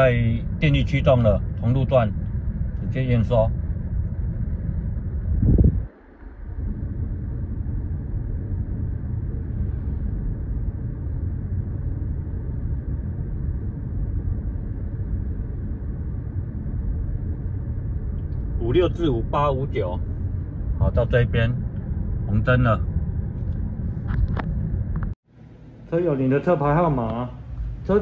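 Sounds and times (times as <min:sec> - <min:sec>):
road and tyre rumble: 0:00.0 - 0:28.0.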